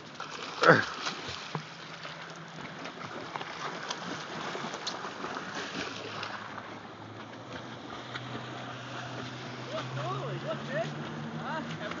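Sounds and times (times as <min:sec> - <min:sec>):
outboard motor running: 0:00.0 - 0:12.0
water noise: 0:00.0 - 0:12.0.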